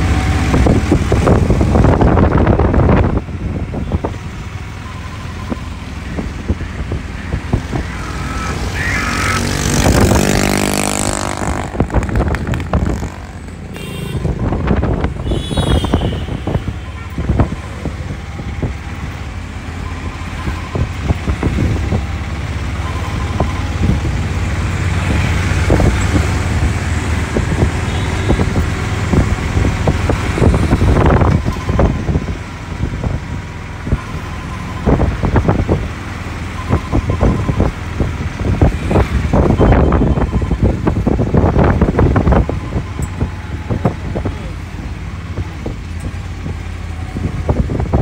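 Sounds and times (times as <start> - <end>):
engine hum: 0.0 - 48.0
road rushing noise: 0.0 - 48.0.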